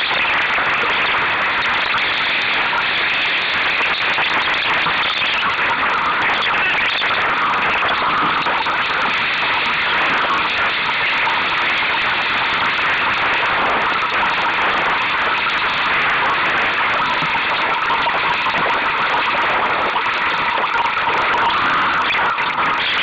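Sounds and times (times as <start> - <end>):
water rushing along hull: 0.0 - 23.0
wind on microphone: 0.0 - 23.0.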